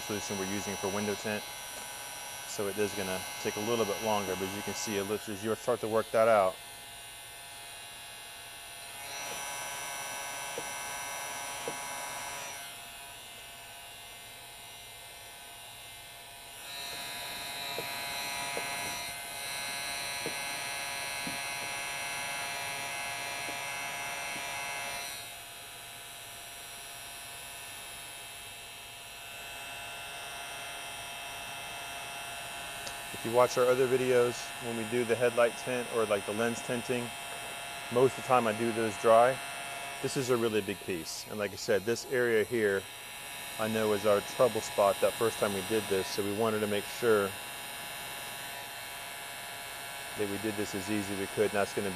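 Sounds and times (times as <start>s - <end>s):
heat gun motor and fan hum: 0.0s - 51.9s.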